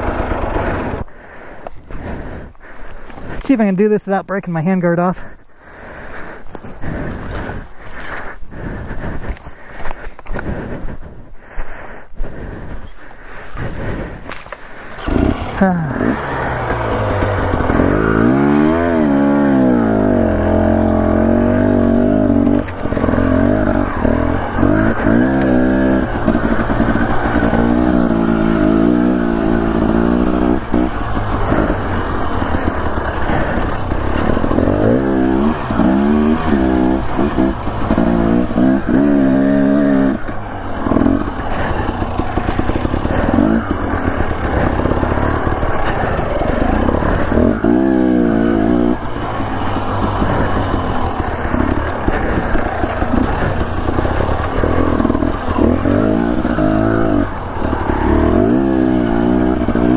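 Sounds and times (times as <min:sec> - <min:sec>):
dirt bike engine revving: 0:00.0 - 0:10.8, 0:13.6 - 0:59.9.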